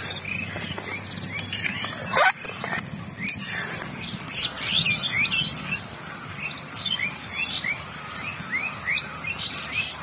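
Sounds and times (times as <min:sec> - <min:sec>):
low steady background noise: 0:00.0 - 0:10.0
small birds chirping: 0:00.0 - 0:10.0.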